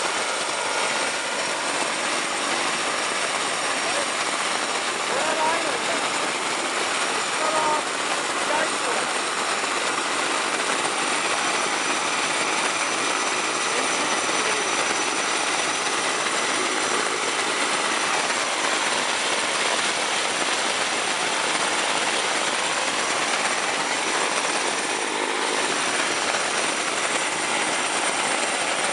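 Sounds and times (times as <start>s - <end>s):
turboprop engine roaring: 0.0s - 28.9s.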